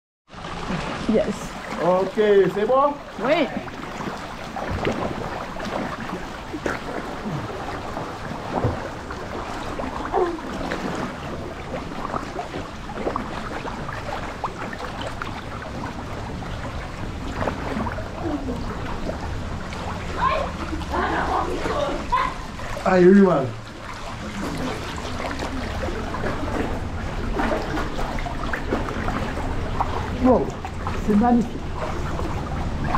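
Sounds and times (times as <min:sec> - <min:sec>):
water lapping and splashing: 0:00.3 - 0:32.9.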